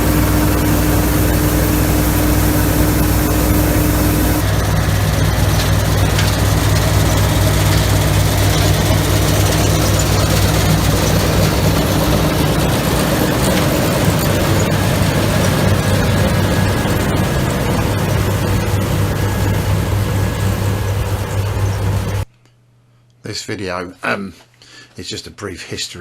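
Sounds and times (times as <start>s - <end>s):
mechanical rush: 0.0s - 22.2s
diesel engine low hum: 0.0s - 22.3s.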